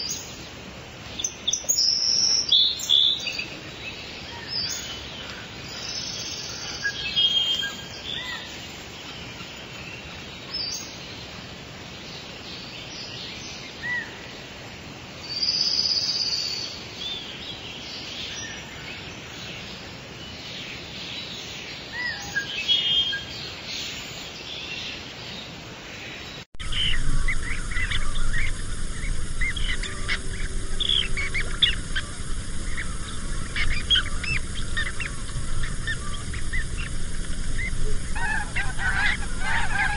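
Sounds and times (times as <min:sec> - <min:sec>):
chorus of quick bird chirps: 0:00.0 - 0:14.5, 0:15.2 - 0:39.9
songbirds chirping and calling: 0:00.0 - 0:39.9.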